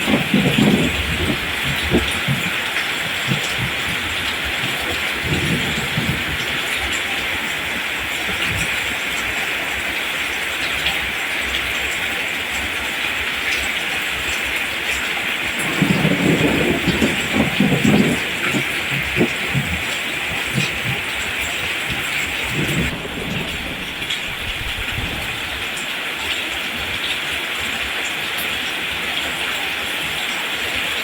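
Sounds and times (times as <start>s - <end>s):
rain falling on plants: 0.0s - 31.0s.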